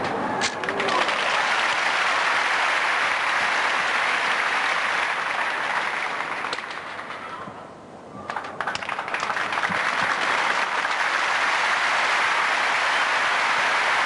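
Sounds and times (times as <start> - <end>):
audience applauding: 0.4 - 7.2, 8.3 - 14.0.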